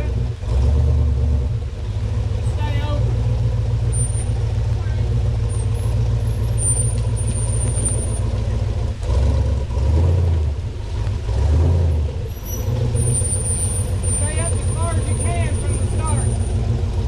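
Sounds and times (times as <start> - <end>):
engine running and revving: 0.0 - 17.0.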